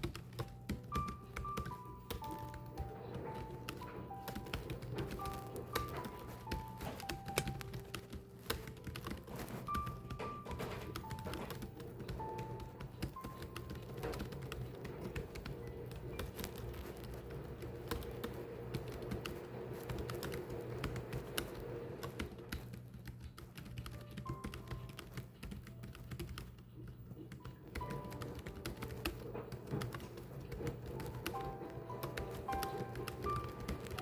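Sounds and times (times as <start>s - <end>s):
keyboard typing clicks: 0.0s - 34.0s.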